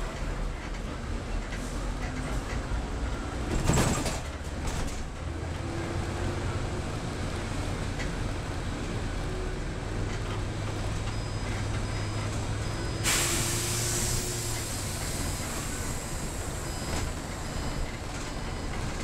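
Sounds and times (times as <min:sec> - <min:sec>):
bus engine hum: 0:00.0 - 0:19.0
road rumble: 0:00.0 - 0:19.0.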